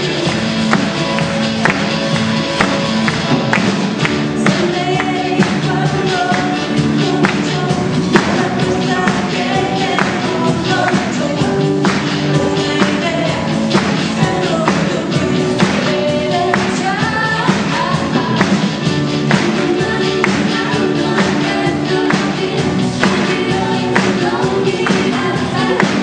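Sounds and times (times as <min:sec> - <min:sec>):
voices singing pop song: 0:00.0 - 0:01.9, 0:03.6 - 0:26.0
amplified accompaniment with beat: 0:00.0 - 0:26.0.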